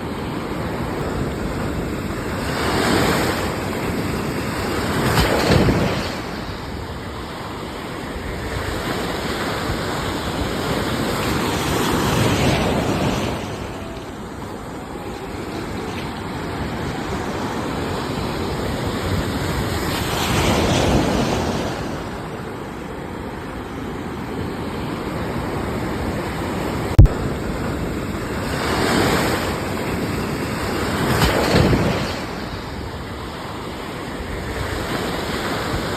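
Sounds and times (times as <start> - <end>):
ocean waves washing on shore: 0.0 - 35.9.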